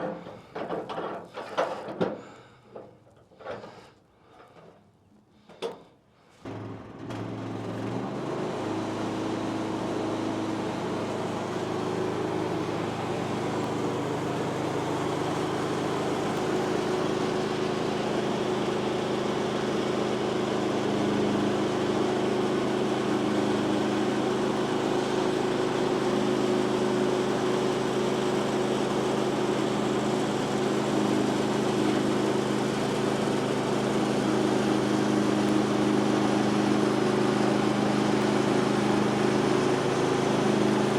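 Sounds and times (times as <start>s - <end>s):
bandsaw mill engine running: 6.5s - 40.9s.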